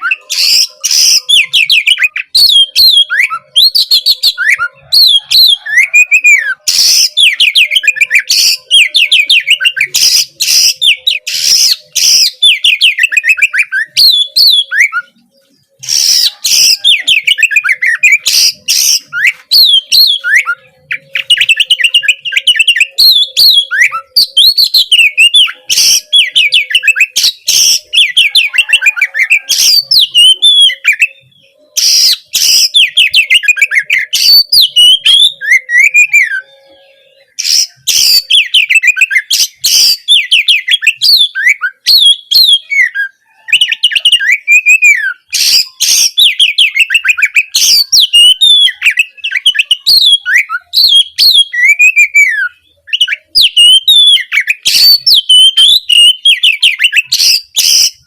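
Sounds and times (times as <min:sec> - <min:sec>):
bird singing whistled song: 0:00.0 - 0:58.0.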